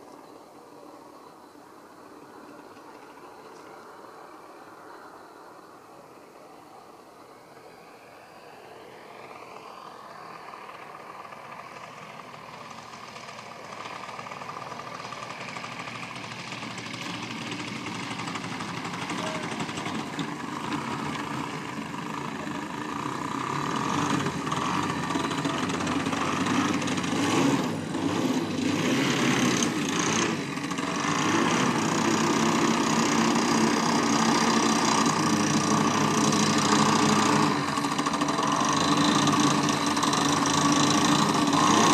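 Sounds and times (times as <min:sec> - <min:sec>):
model airplane engine running: 0:00.0 - 0:41.9.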